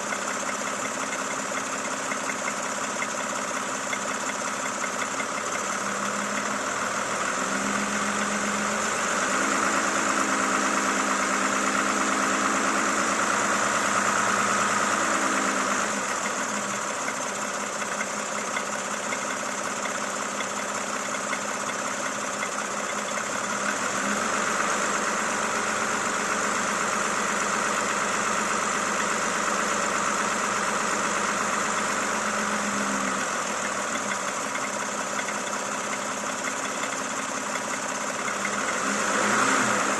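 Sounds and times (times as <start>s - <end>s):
car engine running with knock: 0.0s - 39.9s.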